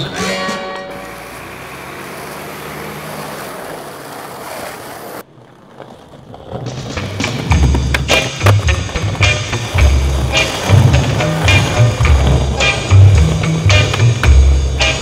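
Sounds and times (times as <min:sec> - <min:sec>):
street traffic: 0:00.0 - 0:15.0
skateboard wheels rolling on asphalt: 0:00.8 - 0:15.0.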